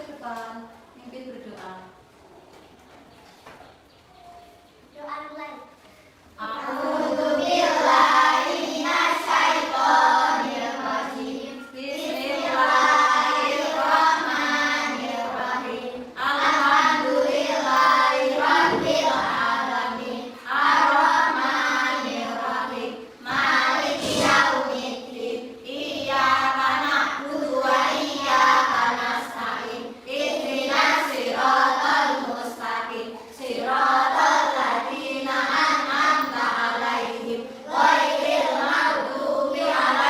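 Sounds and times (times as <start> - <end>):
children chanting in unison: 6.4 - 40.0.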